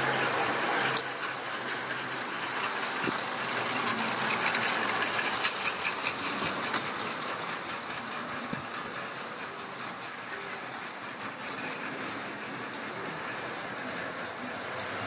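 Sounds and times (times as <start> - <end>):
model train rolling on metal track: 0.0 - 15.0
wheels clicking over rail joints: 0.0 - 15.0.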